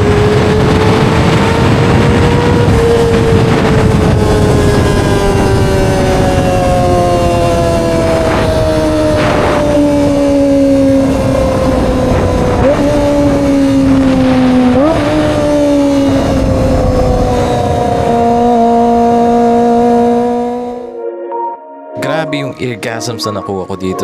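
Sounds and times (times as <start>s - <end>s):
wind noise: 0.0s - 20.2s
motorcycle engine at high revs: 0.0s - 20.9s.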